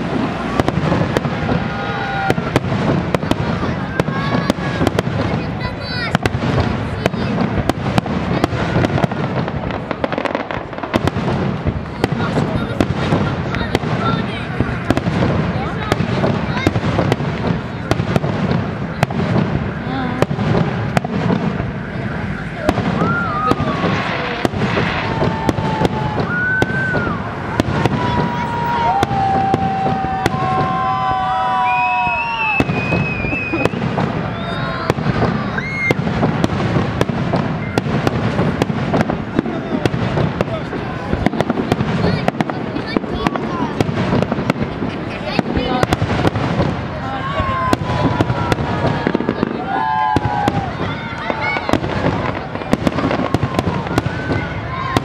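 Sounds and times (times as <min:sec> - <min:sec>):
crowd voices: 0:00.0 - 0:55.0
fireworks bangs: 0:00.0 - 0:55.0
fireworks rumble and crackle: 0:00.0 - 0:55.0.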